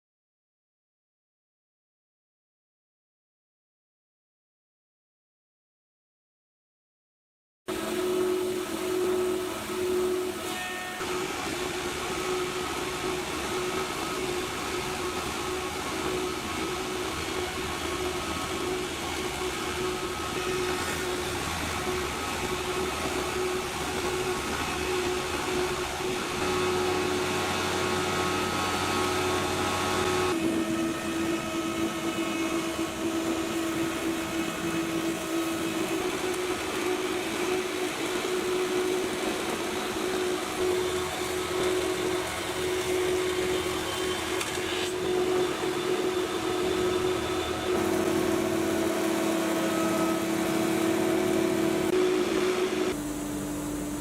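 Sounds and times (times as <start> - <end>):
planer moulder machine hum: 7.7 - 54.0.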